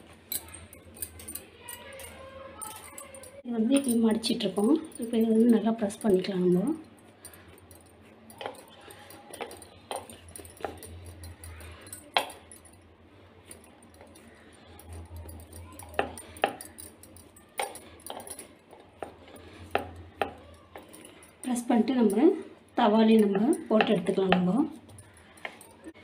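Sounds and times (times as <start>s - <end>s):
kitchen utensils clicking: 0.0s - 12.8s, 13.4s - 26.0s.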